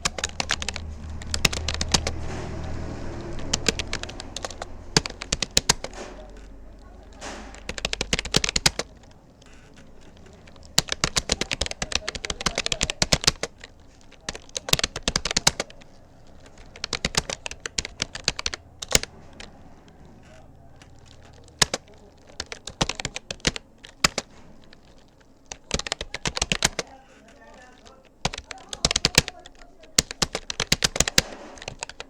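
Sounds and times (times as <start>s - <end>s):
rapid keyboard typing: 0.0s - 32.0s.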